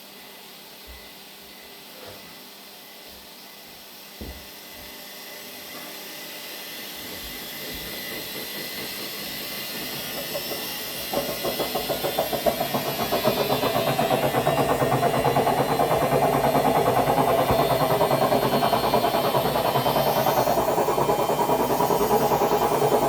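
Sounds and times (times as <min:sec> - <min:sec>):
washing machine running: 0:03.7 - 0:23.0.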